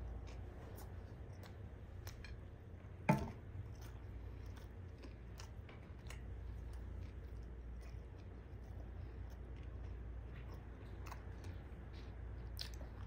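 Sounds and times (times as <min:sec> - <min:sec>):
chewing with wet mouth clicks: 0:00.0 - 0:02.6, 0:03.5 - 0:13.0
steady low hum: 0:00.0 - 0:13.0.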